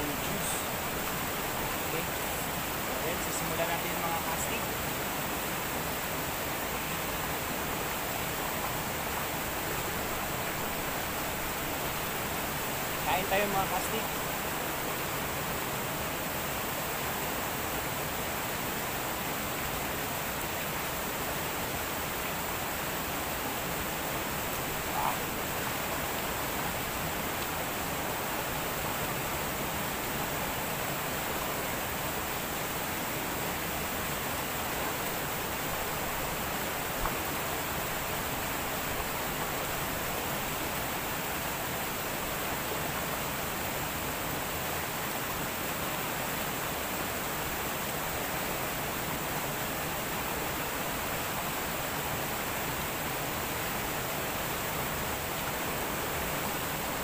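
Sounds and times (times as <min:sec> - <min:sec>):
river flowing over stones: 0:00.0 - 0:57.0.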